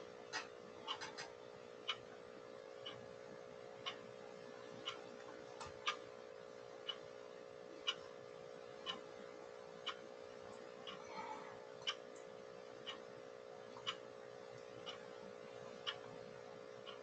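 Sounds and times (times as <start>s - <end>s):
faint clock ticking: 0.0s - 17.0s
steady hum: 0.0s - 17.0s.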